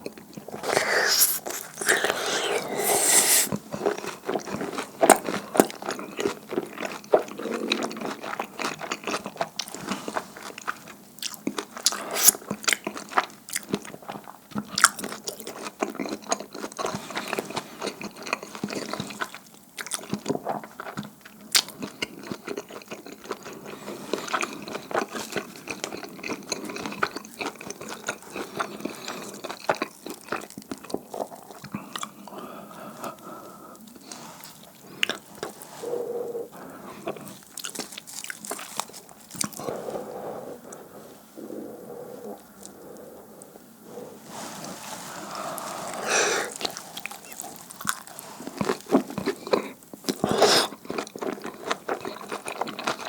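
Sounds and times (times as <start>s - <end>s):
chewing sticky food: 0.0s - 53.0s.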